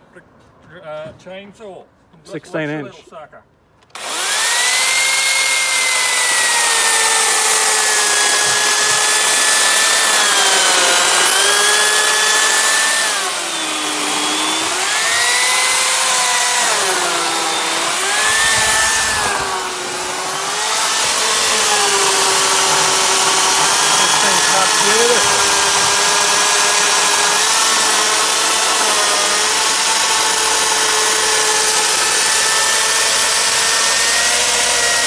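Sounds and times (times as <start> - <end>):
electric chainsaw motor whine: 3.9 - 35.0.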